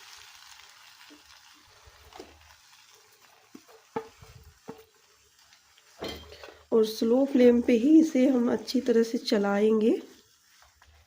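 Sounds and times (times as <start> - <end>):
paste sizzling in a pan: 0.0 - 11.0.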